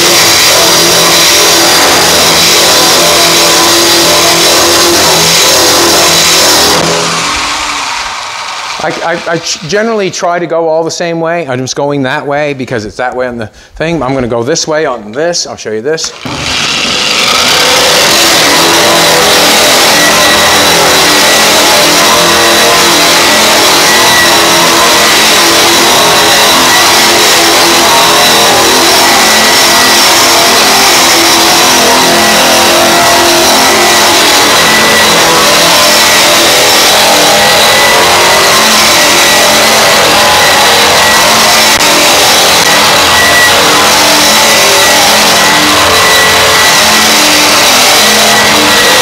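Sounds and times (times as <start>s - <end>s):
stripping wheel grinding metal: 0.0s - 7.5s, 16.2s - 49.0s.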